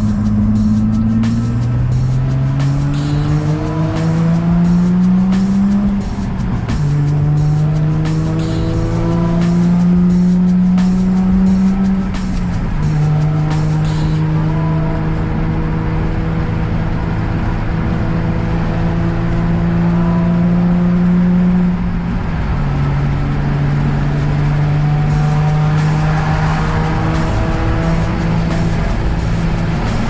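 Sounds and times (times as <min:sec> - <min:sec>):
car engine and exhaust droning: 0:00.0 - 0:30.0.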